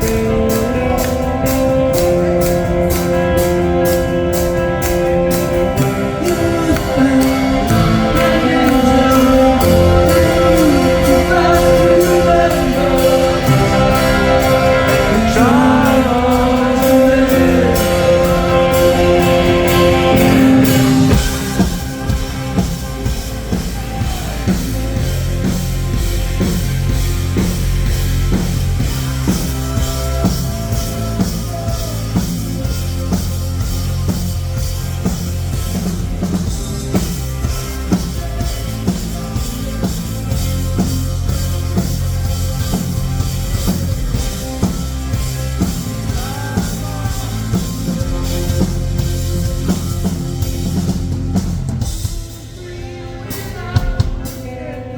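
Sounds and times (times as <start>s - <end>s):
rock band playing live: 0.0s - 54.9s
sustained bass notes: 0.0s - 54.9s.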